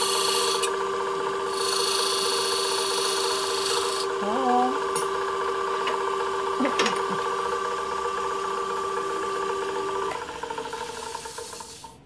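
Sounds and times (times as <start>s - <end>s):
lathe motor humming: 0.0s - 12.0s
lathe spinning down: 0.0s - 12.0s.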